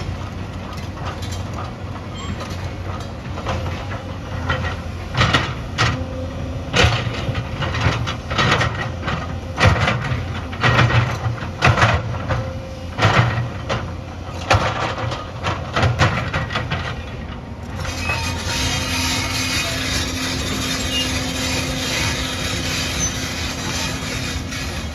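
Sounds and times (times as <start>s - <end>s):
excavator engine running: 0.0s - 24.9s.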